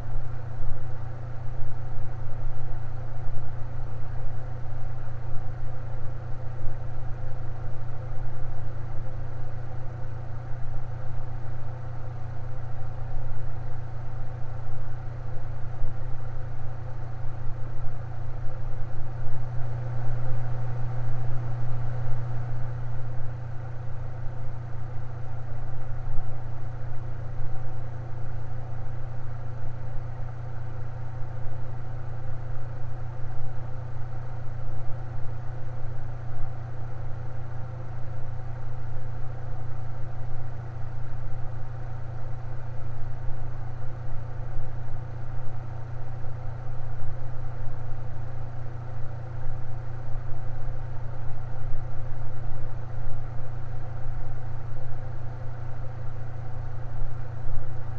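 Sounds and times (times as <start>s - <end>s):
electric fan running: 0.0s - 57.9s.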